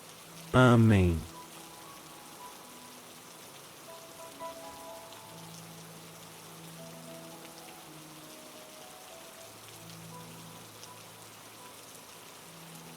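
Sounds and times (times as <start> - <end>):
steady rain: 0.0 - 12.9.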